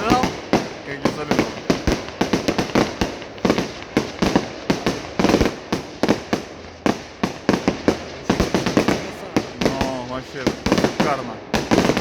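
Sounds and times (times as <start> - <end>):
fireworks shells bursting: 0.0 - 12.0.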